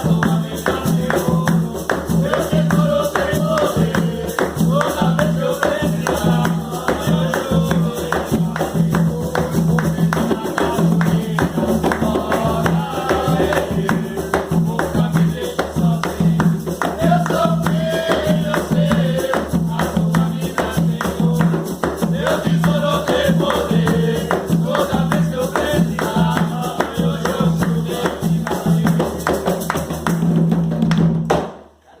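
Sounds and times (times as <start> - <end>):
group of voices singing: 0.0 - 30.4
hand drum and rattle percussion: 0.0 - 31.7.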